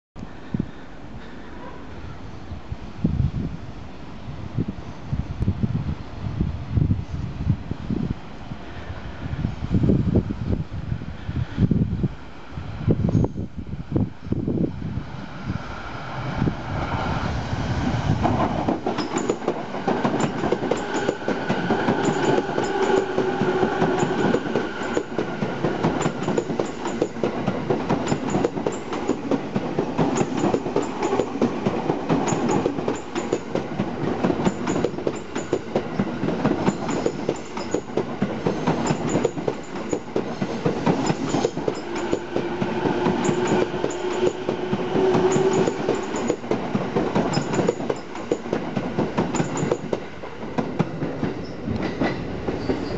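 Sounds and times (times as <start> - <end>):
train running noise: 0.2 - 52.9
train whine: 0.2 - 52.9.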